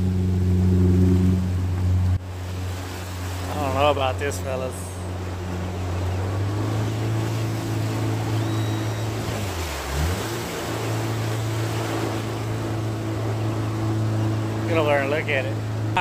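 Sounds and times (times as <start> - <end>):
outboard motor running: 0.0 - 16.0
rushing water: 0.0 - 16.0.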